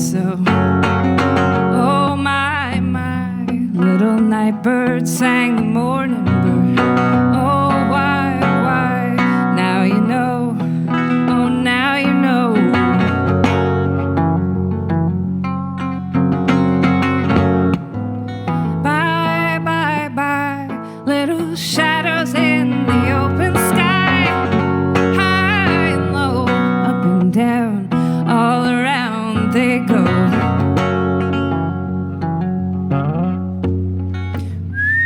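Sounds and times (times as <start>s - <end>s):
acoustic guitar folk music: 0.0s - 35.0s.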